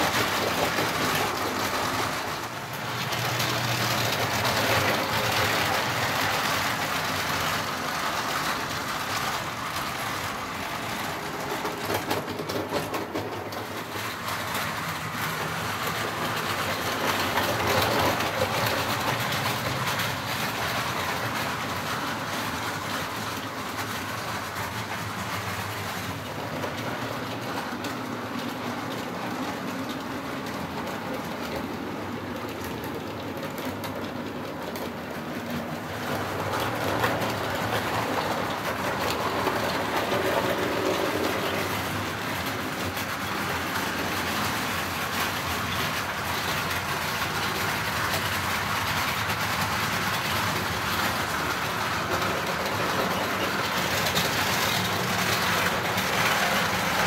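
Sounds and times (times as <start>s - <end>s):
wheels clicking over rail joints: 0.0s - 57.0s.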